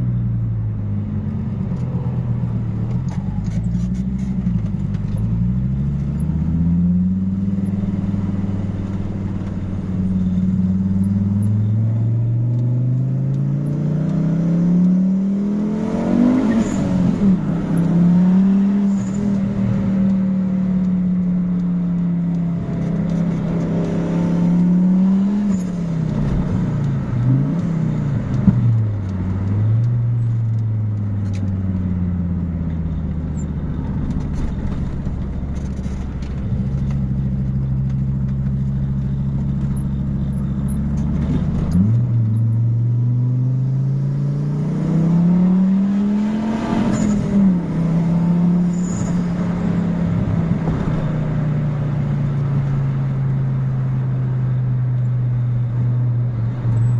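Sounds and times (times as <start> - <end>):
five-cylinder engine revving: 4.6 - 56.9.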